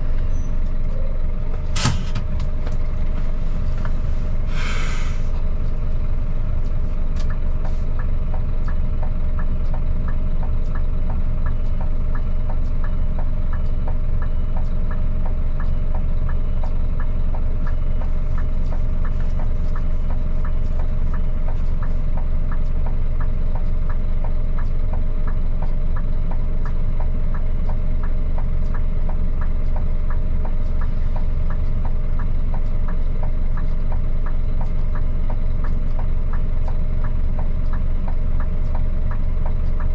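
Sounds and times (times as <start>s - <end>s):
truck diesel engine running: 0.0s - 39.9s
faint regular ticking: 5.5s - 39.9s.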